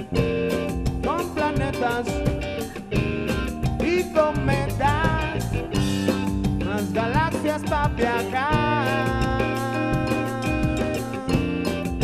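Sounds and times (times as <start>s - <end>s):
electric bass notes: 0.0s - 12.0s
electric guitar lead melody: 0.0s - 12.0s
steady drum beat: 0.0s - 12.0s.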